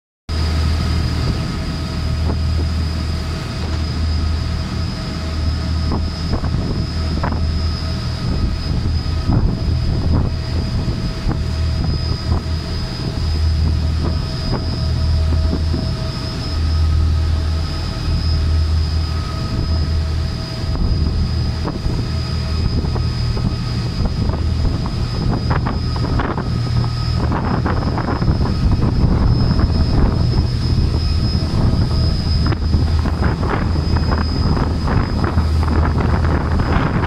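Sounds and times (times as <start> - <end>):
boat engine droning: 0.3 - 37.0
high whine: 0.3 - 37.0
wind buffeting microphone: 0.3 - 37.0.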